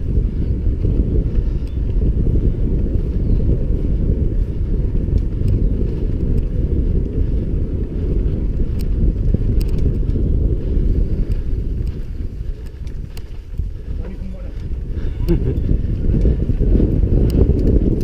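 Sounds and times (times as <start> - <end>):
bike clicks and rattles: 0.0 - 18.0
bike tyres rolling on mud: 0.0 - 18.0
wind buffeting microphone: 0.0 - 18.0.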